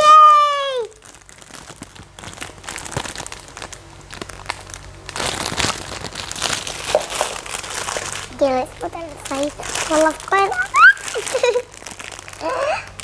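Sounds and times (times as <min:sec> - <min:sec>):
gift wrapping crinkling: 0:00.0 - 0:13.0.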